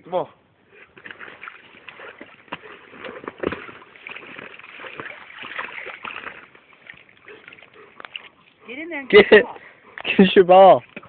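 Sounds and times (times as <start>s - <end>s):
water sloshing and splashing: 0.7s - 10.2s.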